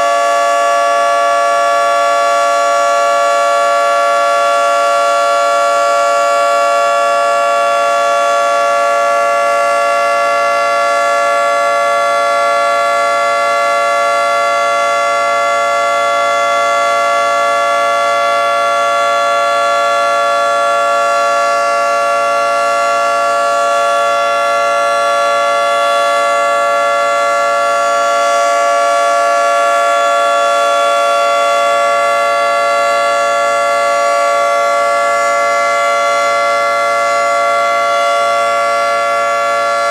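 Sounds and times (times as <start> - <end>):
steady two-note warning siren: 0.0 - 39.9.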